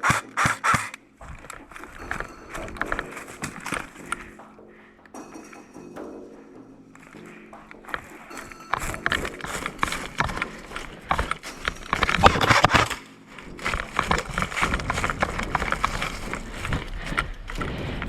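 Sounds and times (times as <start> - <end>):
rustling noise: 0.0 - 4.5, 7.0 - 18.0
running footsteps on rough ground: 0.0 - 6.1, 7.0 - 18.0.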